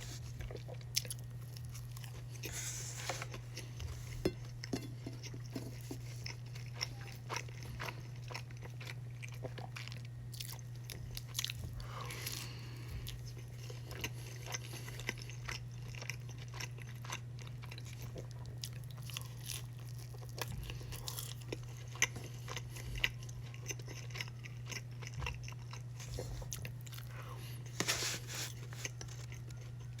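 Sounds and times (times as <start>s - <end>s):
chewing and biting crunchy food: 0.0s - 30.0s
steady low hum: 0.0s - 30.0s
tortilla crunching: 0.0s - 30.0s.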